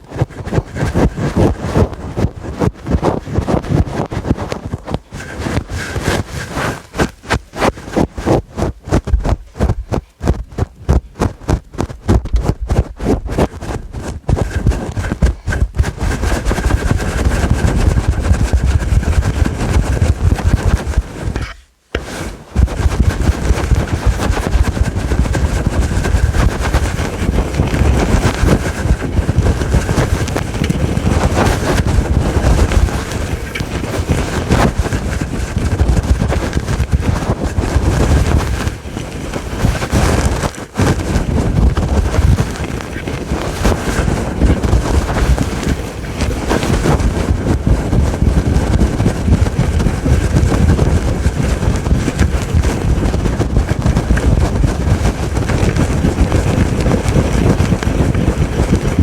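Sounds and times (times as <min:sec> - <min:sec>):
scratching on microphone windscreen: 0:00.0 - 0:59.0.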